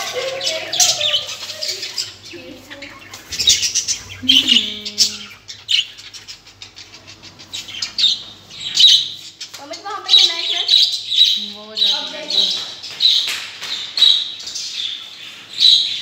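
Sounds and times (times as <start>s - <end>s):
budgerigars chirping: 0.1s - 16.0s.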